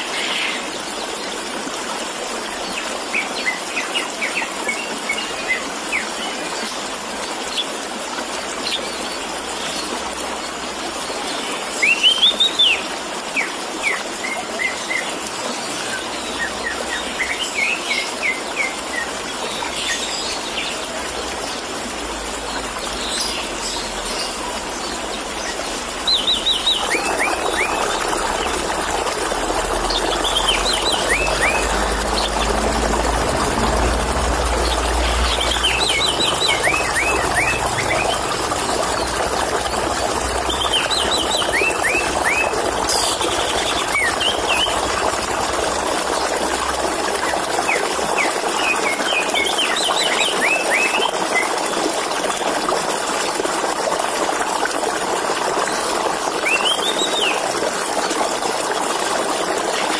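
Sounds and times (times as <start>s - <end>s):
running water gurgling: 0.0s - 59.9s.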